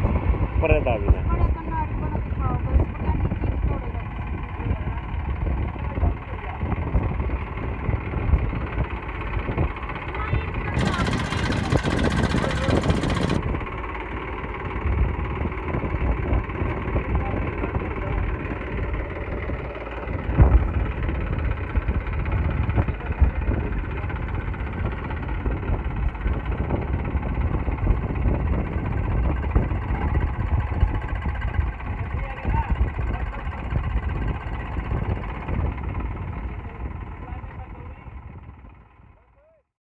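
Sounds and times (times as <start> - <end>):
tractor diesel engine running: 0.0 - 39.4.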